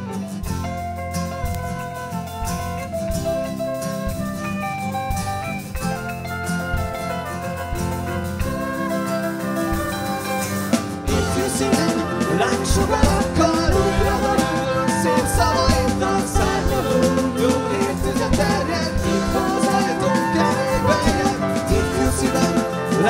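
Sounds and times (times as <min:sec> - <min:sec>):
bass: 0:00.0 - 0:23.0
drums: 0:00.0 - 0:23.0
electric and acoustic guitars: 0:00.0 - 0:23.0
flute: 0:00.0 - 0:23.0.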